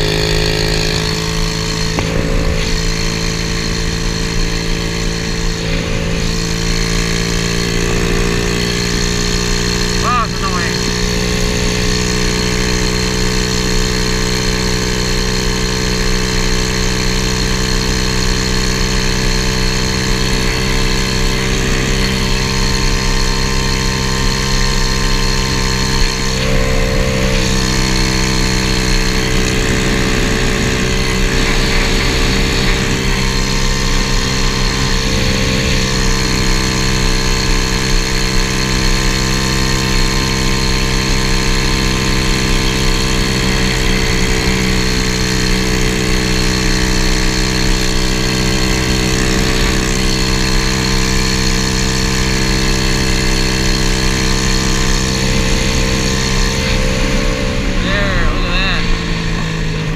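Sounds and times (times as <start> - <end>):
small motorbike engine running: 0.0 - 59.9.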